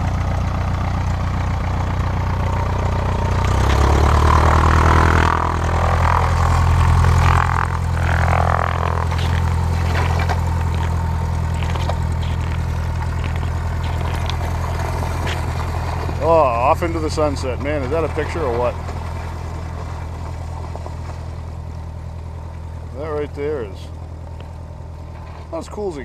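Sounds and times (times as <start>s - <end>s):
propeller plane engine running: 0.0s - 26.0s.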